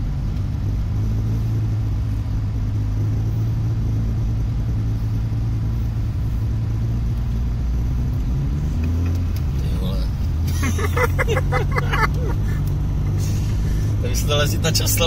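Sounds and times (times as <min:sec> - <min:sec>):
car interior engine and tyre drone: 0:00.0 - 0:15.0.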